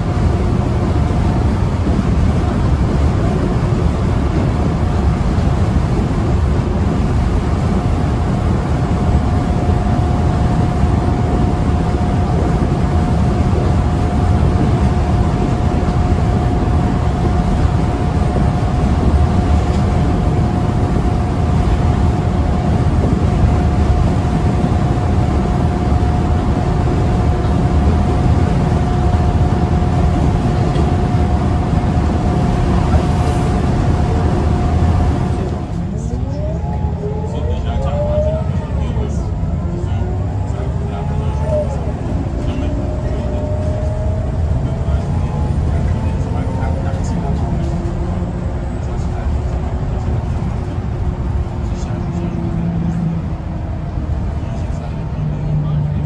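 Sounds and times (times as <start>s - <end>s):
bus engine and road rumble: 0.0s - 56.0s
driveline whine: 0.0s - 56.0s.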